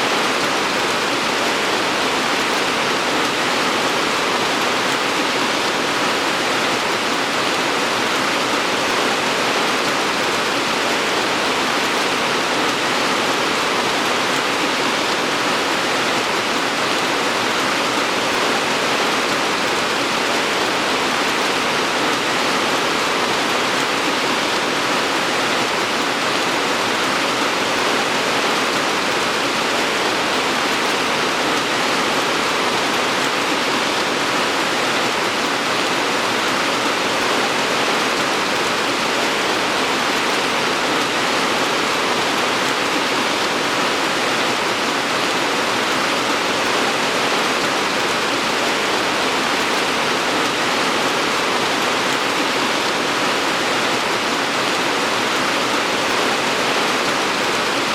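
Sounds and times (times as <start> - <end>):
steady heavy rain: 0.0 - 57.9.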